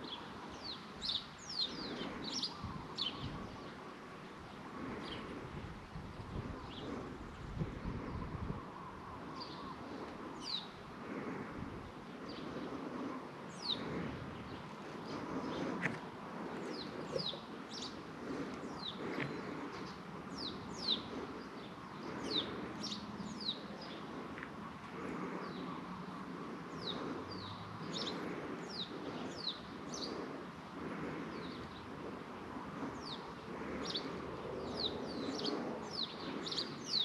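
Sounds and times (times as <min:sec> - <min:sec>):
birds chirping: 0:00.0 - 0:37.0
faint background noise: 0:00.0 - 0:37.0.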